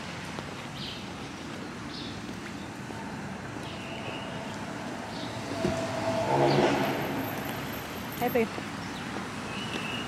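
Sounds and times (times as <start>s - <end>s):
traffic hum: 0.0s - 10.0s.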